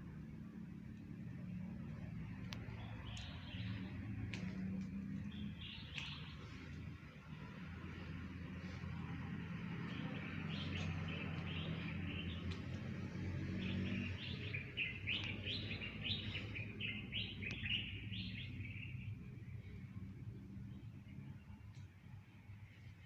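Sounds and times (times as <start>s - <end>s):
low steady hum: 0.0s - 23.0s
small birds chirping: 0.9s - 22.0s.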